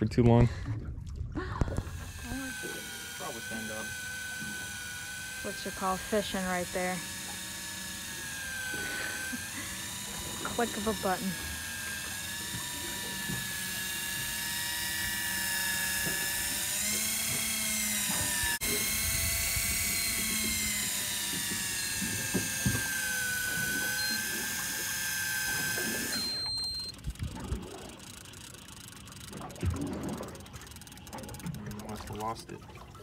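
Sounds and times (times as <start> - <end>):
electric fishing reel whine: 1.6 - 32.5.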